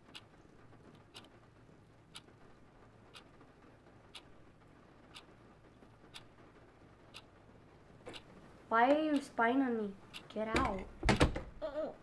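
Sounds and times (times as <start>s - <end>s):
clock ticking: 0.0s - 10.9s.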